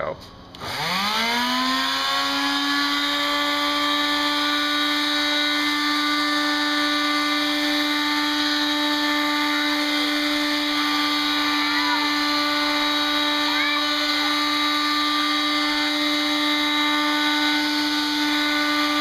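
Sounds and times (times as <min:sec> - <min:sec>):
electric sander motor hum: 0:00.6 - 0:19.0.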